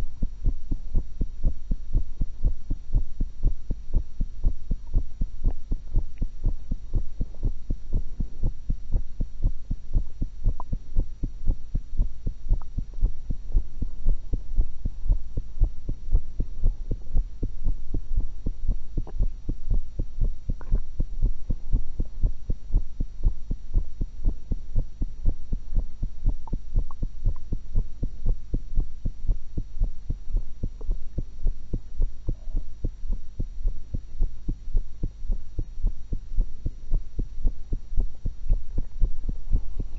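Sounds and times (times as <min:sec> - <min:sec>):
constant low hum: 0:00.0 - 0:39.9
heartbeat through stethoscope: 0:00.0 - 0:39.9.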